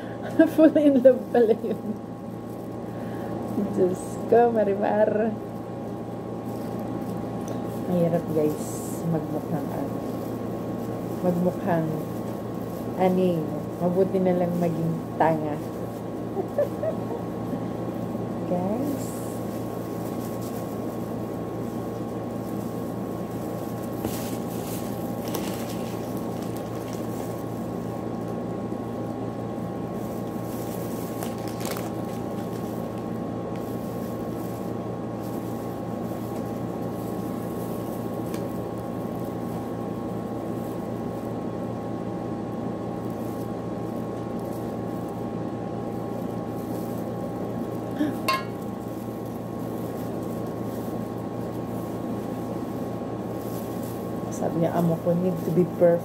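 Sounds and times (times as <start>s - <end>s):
gloved hands folding pastry: 0.0s - 56.0s
steady mechanical hum: 0.0s - 56.0s.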